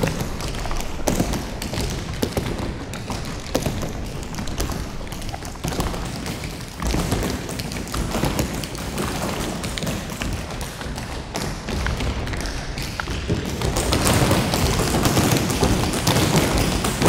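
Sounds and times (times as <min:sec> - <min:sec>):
feet tapping on stage floor: 0:00.0 - 0:17.0.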